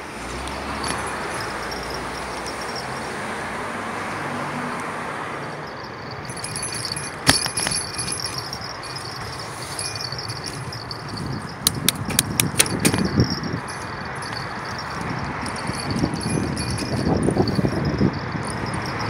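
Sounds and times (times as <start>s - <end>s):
wind and tyre noise: 0.0s - 19.0s
bicycle rattling and clinking: 0.4s - 3.5s, 5.4s - 19.0s.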